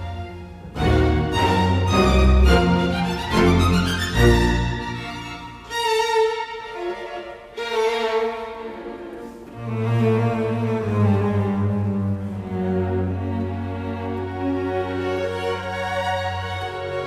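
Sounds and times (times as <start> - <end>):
violin and cello music: 0.0 - 17.0.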